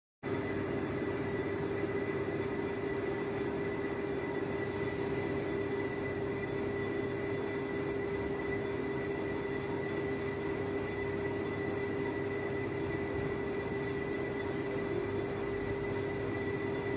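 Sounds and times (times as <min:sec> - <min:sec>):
metal lathe running: 0:00.3 - 0:16.9.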